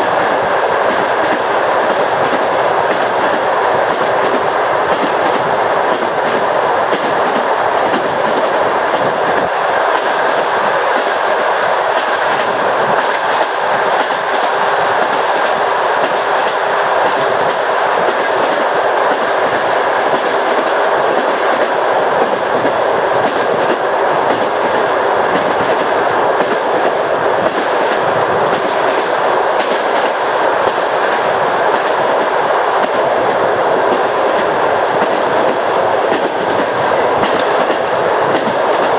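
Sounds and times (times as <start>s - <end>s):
train wheels rushing on rails: 0.0s - 38.9s.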